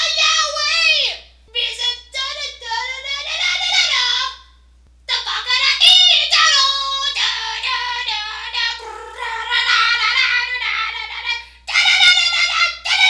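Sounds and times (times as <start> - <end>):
woman singing in high voice: 0.0 - 4.4, 5.1 - 13.0.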